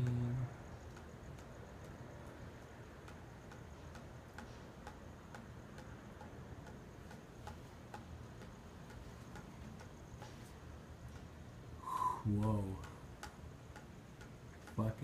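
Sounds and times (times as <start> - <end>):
faint even ticking: 0.0 - 15.0
faint high whine: 0.0 - 15.0
low steady background noise: 0.0 - 15.0.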